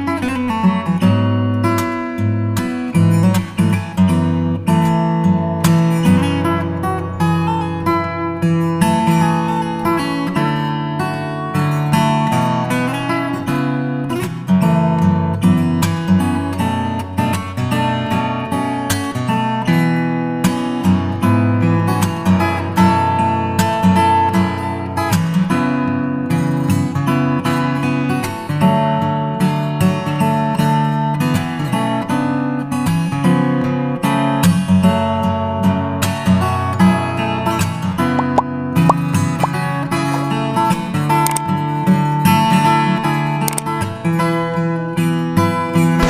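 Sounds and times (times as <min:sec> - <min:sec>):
strummed acoustic guitar: 0:00.0 - 0:46.0.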